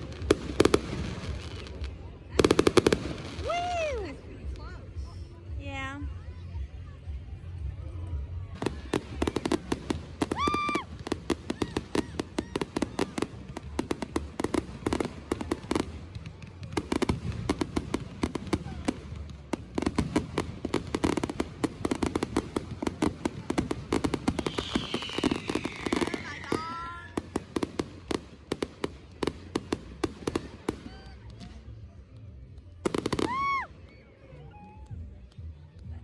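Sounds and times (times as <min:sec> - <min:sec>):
fireworks crackling: 0:00.0 - 0:05.2, 0:08.5 - 0:33.7.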